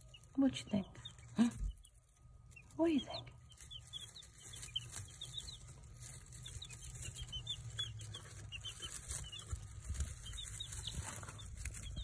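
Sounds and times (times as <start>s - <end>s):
chicks peeping: 0.0s - 12.0s
faint low hum: 0.0s - 12.0s.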